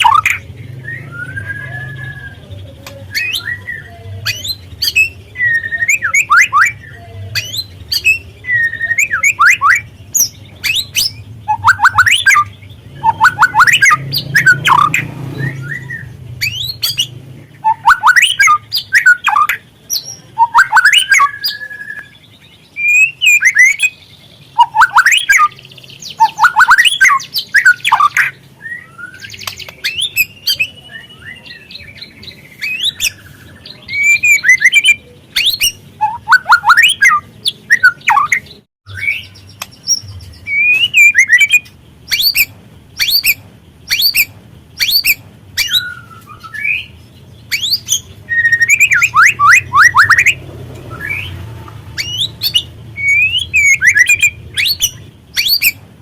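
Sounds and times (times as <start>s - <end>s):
bird singing sharp chirps: 0.0s - 55.8s.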